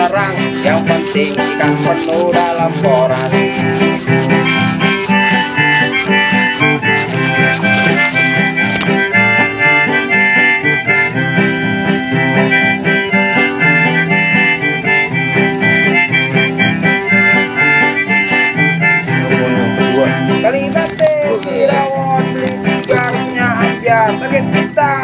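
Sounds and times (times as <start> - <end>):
harmonica tune with accompaniment: 0.0 - 25.0.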